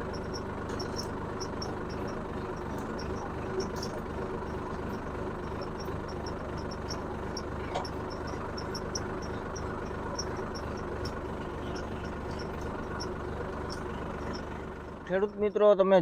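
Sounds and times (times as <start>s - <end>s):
faint high ticking: 0.0s - 15.4s
tractor engine running: 0.0s - 16.0s.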